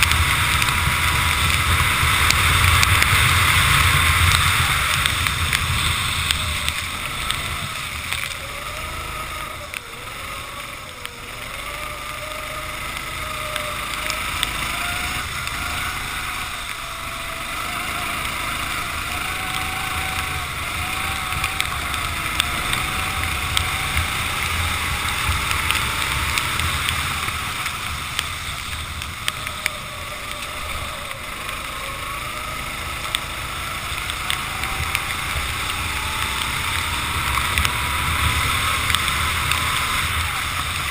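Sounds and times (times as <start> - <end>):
hiss of wind and spray: 0.0 - 40.9
kart engine accelerating and slowing: 0.0 - 40.9.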